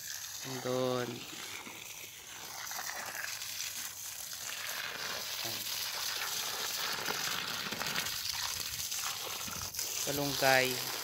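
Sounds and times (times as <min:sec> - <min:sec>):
hose water spraying on plants: 0:00.0 - 0:11.0.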